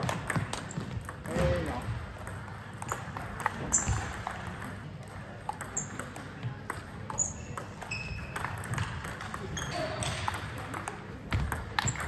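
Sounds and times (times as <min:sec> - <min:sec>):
table tennis ball clicking: 0:02.2 - 0:12.0.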